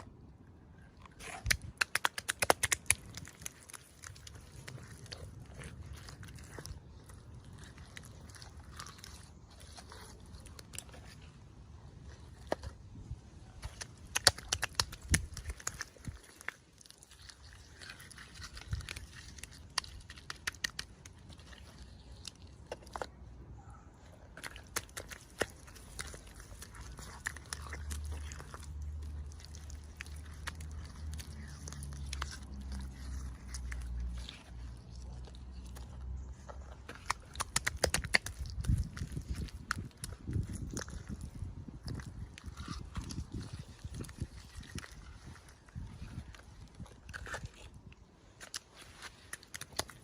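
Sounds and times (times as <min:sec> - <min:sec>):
plastic packaging clicks and crinkles: 0:01.1 - 0:11.3, 0:13.5 - 0:23.2, 0:24.3 - 0:50.0.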